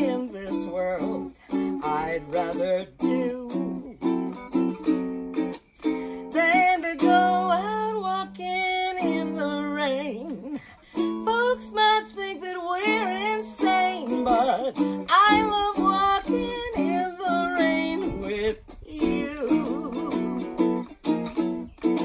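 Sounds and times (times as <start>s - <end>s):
woman singing: 0.0s - 4.5s, 5.9s - 22.0s
ukulele strumming chords: 0.0s - 22.0s.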